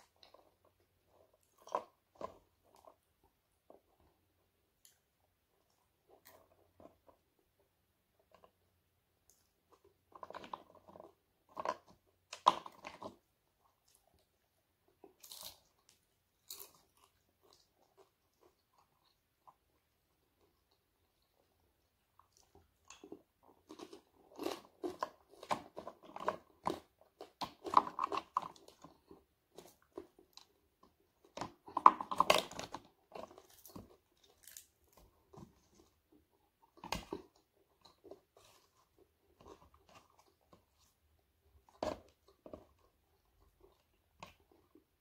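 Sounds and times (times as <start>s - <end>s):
person chewing crunchy food: 0.0s - 4.1s, 9.3s - 45.0s.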